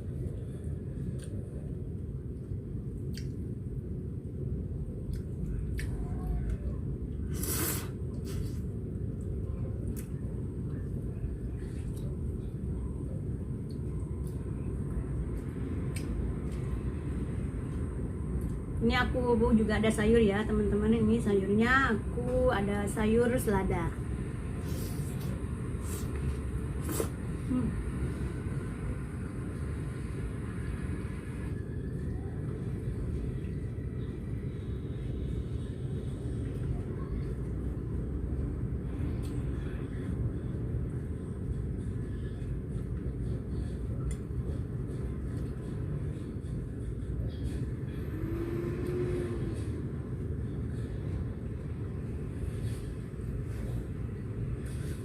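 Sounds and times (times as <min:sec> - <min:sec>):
low background rumble: 0:00.0 - 0:55.0.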